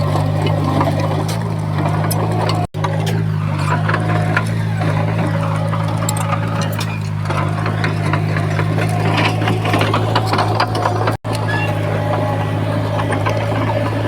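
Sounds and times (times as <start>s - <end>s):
bulldozer diesel engine droning: 0.0s - 14.0s
metal clicks and squeaks: 0.0s - 14.0s.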